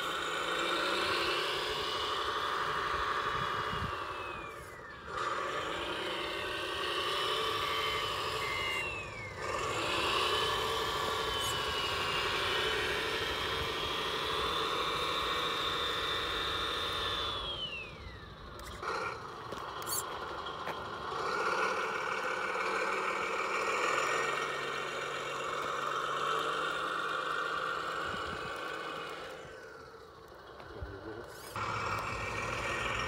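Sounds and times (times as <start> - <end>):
small electric motor whining: 0.0 - 33.0.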